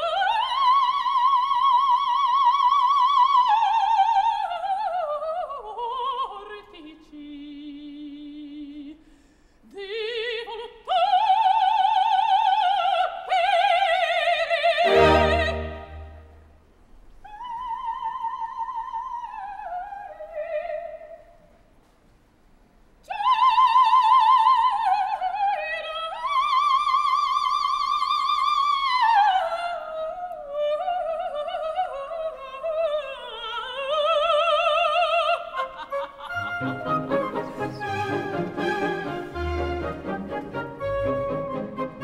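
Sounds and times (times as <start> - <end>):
operatic soprano singing: 0.0 - 9.0, 9.6 - 16.4, 17.2 - 21.3, 23.0 - 42.0.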